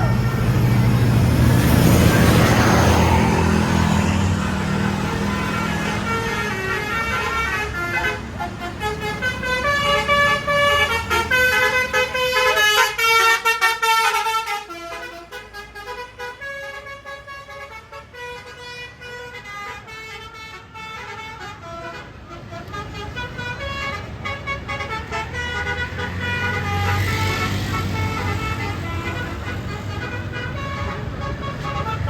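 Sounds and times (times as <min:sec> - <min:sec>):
bus engine running: 0:00.0 - 0:32.0
musical air horn tune: 0:01.8 - 0:32.0.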